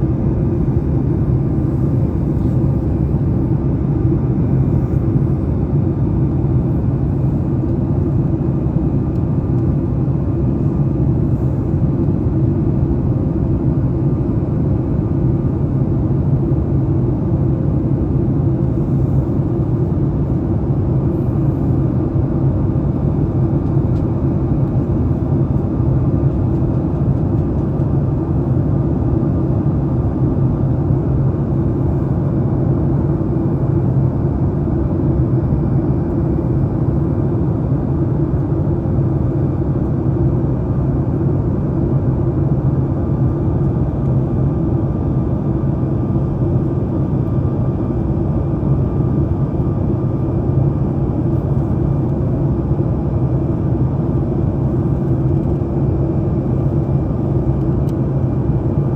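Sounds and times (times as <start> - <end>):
airplane cabin engine rumble: 0.0 - 58.9.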